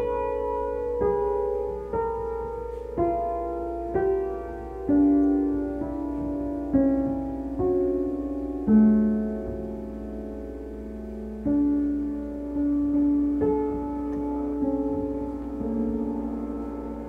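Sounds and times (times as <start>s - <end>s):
slow piano notes: 0.0s - 17.0s.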